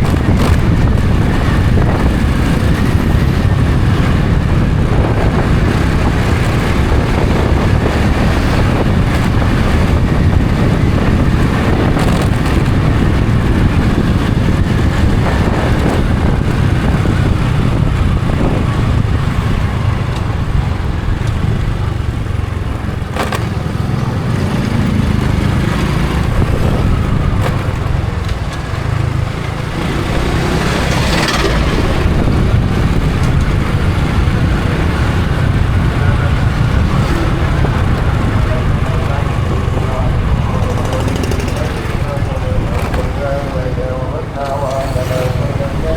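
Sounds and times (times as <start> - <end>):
motorcycle engine rumbling: 0.0 - 45.9.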